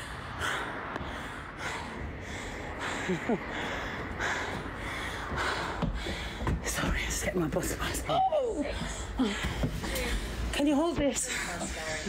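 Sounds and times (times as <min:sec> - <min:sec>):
person breathing heavily: 0:00.0 - 0:07.1, 0:08.6 - 0:12.0.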